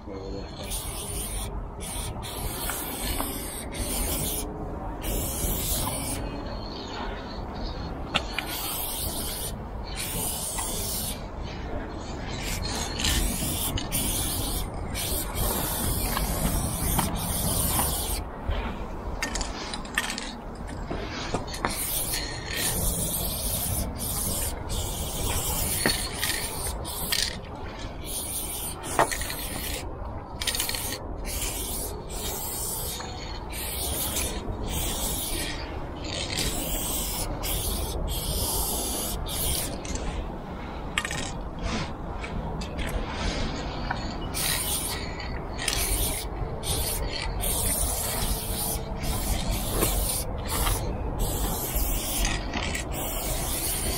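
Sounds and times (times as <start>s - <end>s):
steady low rumble: 0.0s - 53.9s
spray paint can hissing: 0.5s - 7.0s, 7.6s - 11.6s, 12.2s - 18.3s, 21.1s - 40.1s, 42.8s - 53.9s.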